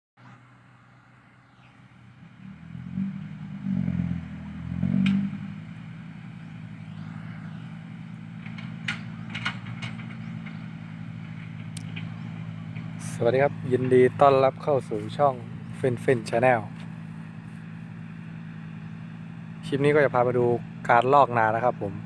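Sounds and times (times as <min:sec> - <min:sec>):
diesel machinery engine running: 0:00.2 - 0:22.0.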